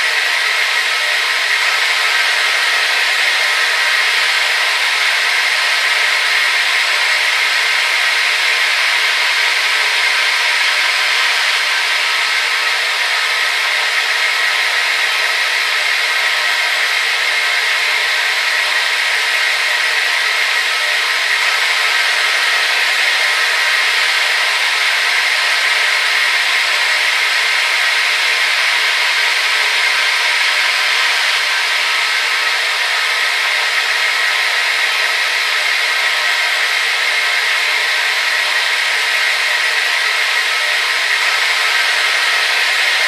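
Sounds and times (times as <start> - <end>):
hair dryer running: 0.0 - 43.0.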